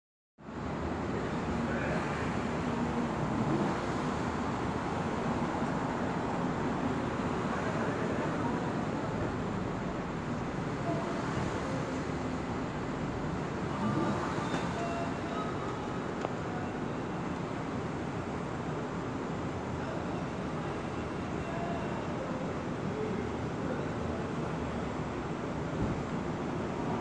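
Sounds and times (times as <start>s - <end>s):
road traffic: 0.4s - 27.0s.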